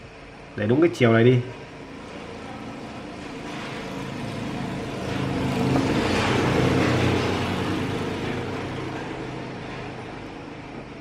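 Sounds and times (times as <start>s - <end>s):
vehicle engine: 1.4s - 11.0s.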